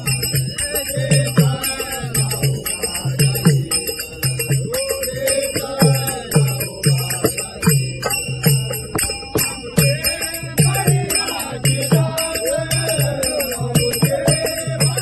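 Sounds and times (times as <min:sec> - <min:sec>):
small hand cymbals jingling: 0:00.0 - 0:15.0
hand drum beating: 0:02.4 - 0:15.0.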